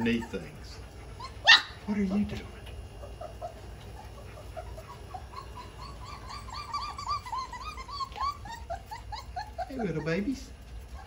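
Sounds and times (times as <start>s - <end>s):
puppies squeaking and whimpering: 0.0s - 11.0s.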